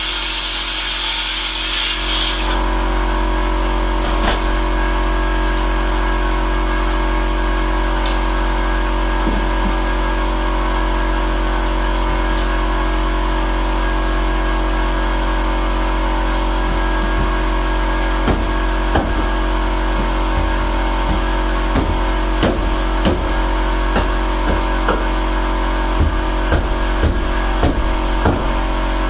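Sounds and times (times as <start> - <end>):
air compressor motor humming: 0.0 - 29.0.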